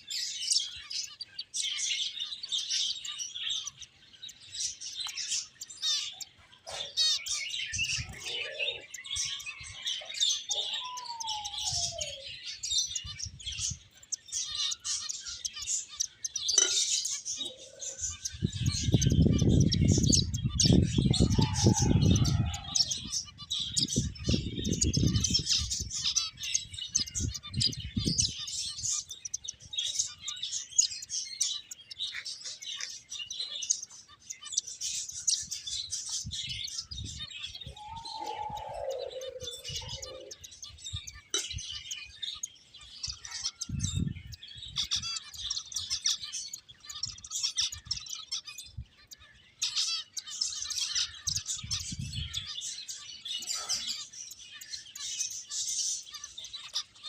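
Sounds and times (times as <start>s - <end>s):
finches chirping: 0.0s - 57.0s.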